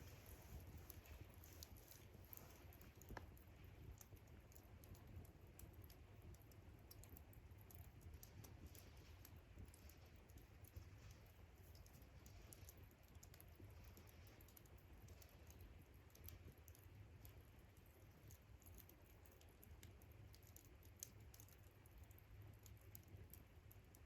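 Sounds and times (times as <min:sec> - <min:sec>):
campfire crackling: 0:00.0 - 0:24.0
low steady rumble: 0:00.0 - 0:24.0.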